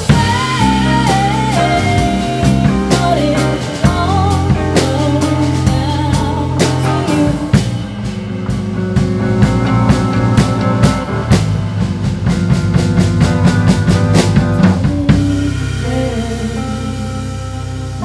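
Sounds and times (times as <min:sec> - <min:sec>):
busy drumming: 0:00.0 - 0:18.0
live rock band: 0:00.0 - 0:18.0.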